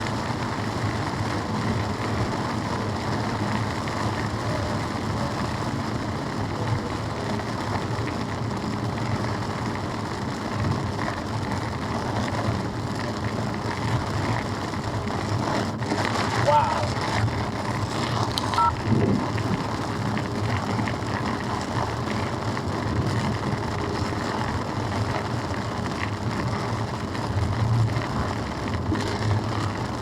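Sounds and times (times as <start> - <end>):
car driving on highway: 0.0 - 30.0.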